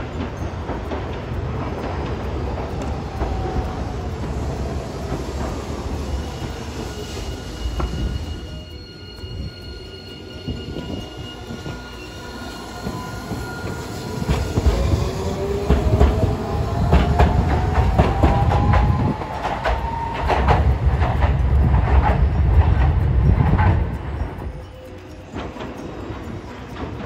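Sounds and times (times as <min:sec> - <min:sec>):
wheels clicking over rail joints: 0:00.0 - 0:08.6, 0:12.4 - 0:27.0
tram rumble and motor whine: 0:00.0 - 0:27.0.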